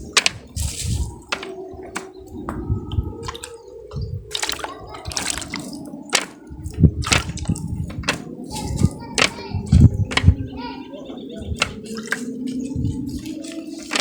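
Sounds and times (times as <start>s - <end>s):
fishing net handling knocks: 0.0s - 3.6s, 4.2s - 10.4s, 11.6s - 14.0s
water splashing and dripping: 0.0s - 10.4s, 11.5s - 14.0s.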